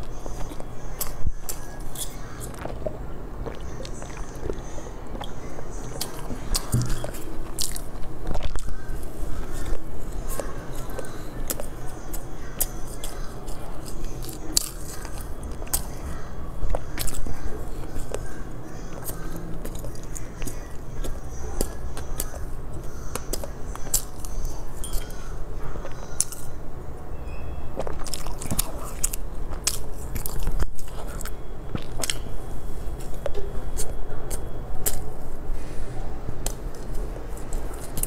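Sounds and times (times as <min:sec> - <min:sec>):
biting and chewing cake: 0:00.0 - 0:35.8, 0:36.4 - 0:38.0.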